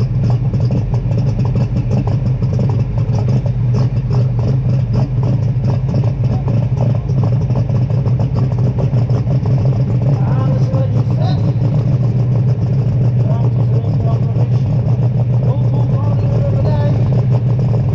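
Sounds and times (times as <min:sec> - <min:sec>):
tractor diesel engine running: 0:00.0 - 0:17.9.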